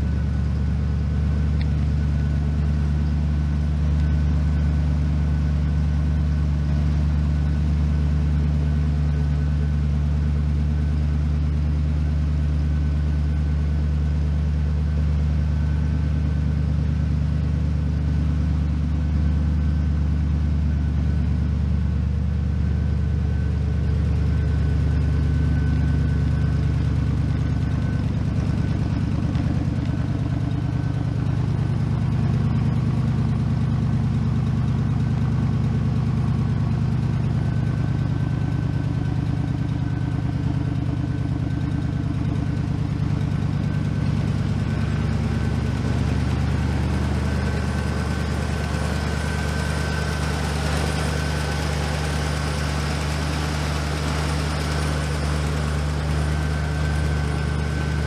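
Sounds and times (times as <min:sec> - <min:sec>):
van engine idling: 0:00.0 - 0:58.0.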